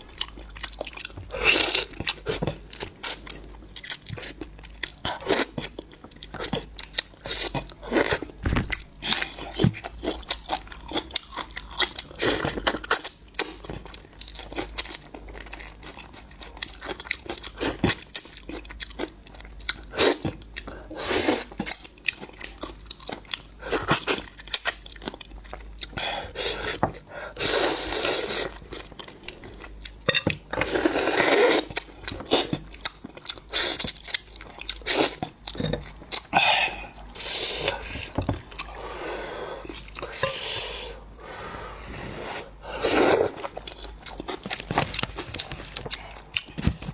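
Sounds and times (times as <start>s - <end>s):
close-miked chewing and crunching: 0.0s - 40.4s, 42.5s - 46.9s.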